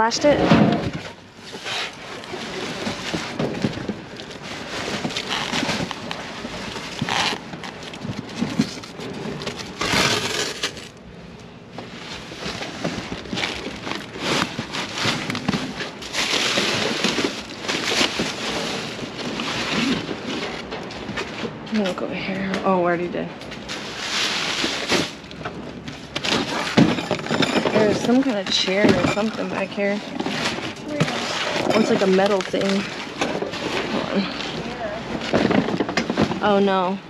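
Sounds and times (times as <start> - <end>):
cardboard and plastic bags rustling: 0.0 - 37.0.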